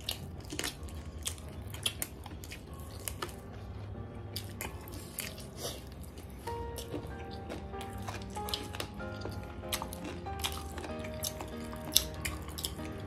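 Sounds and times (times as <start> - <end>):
person chewing chicken: 0.0 - 13.0.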